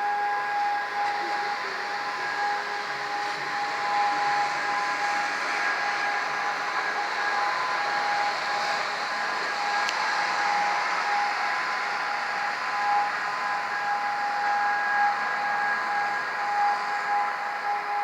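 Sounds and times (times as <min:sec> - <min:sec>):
distant electronic siren tone: 0:00.0 - 0:18.0.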